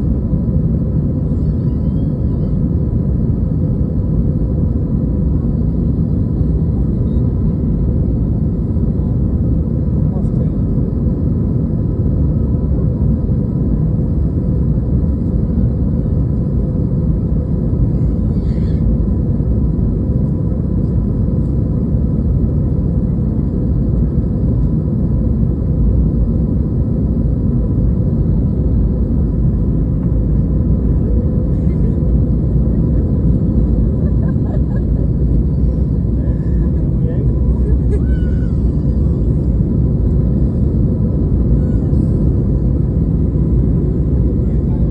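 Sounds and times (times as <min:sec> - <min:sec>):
jet engine rumble: 0:00.0 - 0:44.9.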